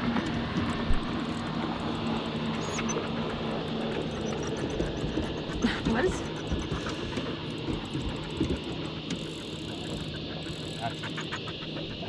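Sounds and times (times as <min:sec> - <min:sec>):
outboard motor humming: 0:00.0 - 0:12.0.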